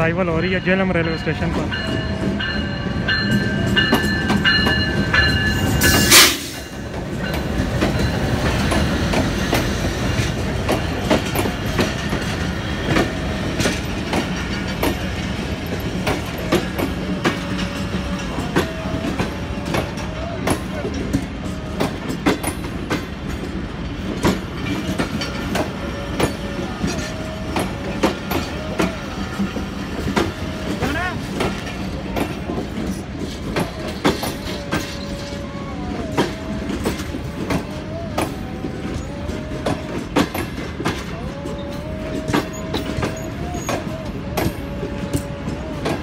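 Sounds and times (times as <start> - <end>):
train rumble: 0.0 - 46.0
wheels clicking over rail joints: 1.6 - 46.0.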